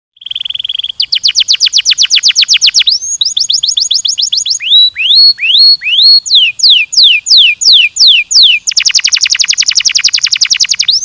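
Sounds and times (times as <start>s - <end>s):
canary singing: 0.2s - 11.0s.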